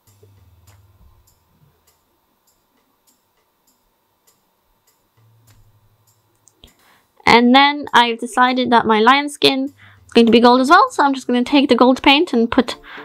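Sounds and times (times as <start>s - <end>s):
faint low hum: 0.0s - 13.0s
faint regular ticking: 0.0s - 13.0s.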